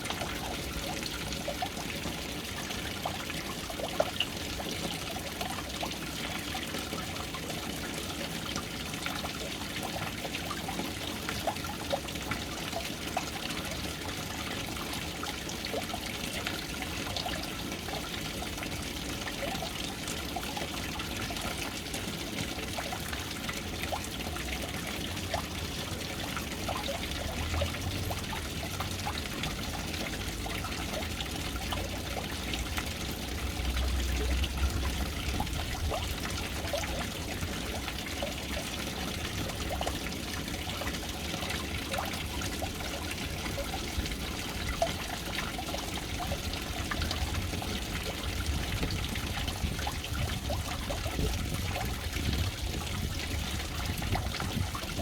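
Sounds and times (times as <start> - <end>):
water pouring into a tank: 0.0 - 55.0.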